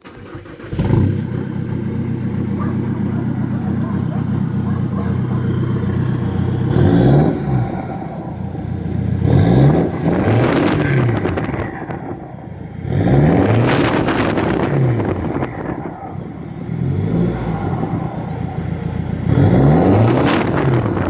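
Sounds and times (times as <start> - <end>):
diesel engine revving: 0.0 - 21.0.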